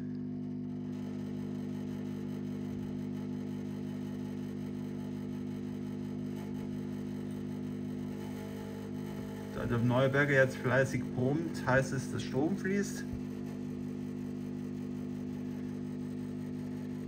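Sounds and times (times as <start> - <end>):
low mains hum: 0.0 - 17.0.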